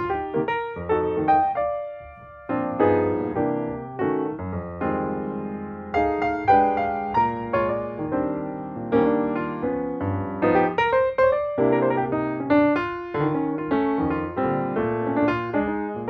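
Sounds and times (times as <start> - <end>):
piano-like keyboard music: 0.0 - 16.0.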